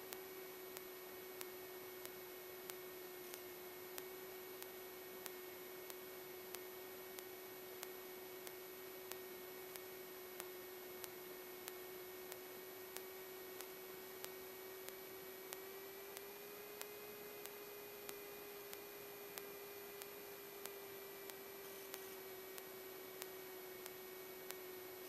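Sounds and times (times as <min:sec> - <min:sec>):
electrical whine: 0:00.0 - 0:25.0
faint regular clicks: 0:00.0 - 0:25.0.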